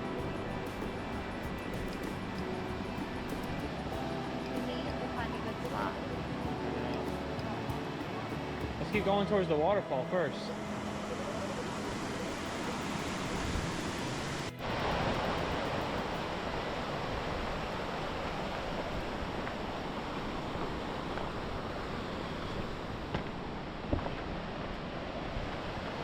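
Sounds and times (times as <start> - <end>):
creek water rushing over rock: 0.0 - 26.0.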